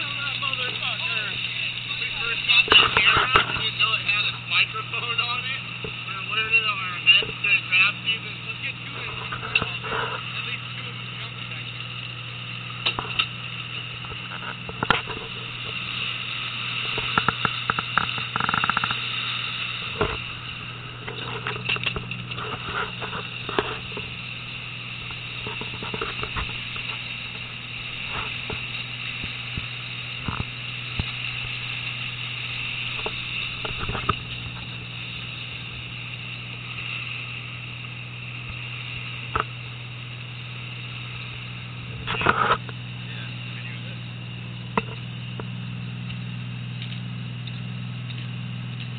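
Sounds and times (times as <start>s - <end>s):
boat engine humming: 0.0s - 48.9s
churning propeller wash: 0.0s - 48.9s.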